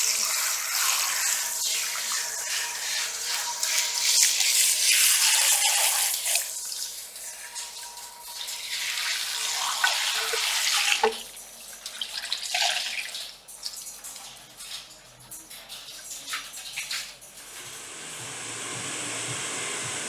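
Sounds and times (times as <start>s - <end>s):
water splashing into a basin: 0.0s - 17.7s.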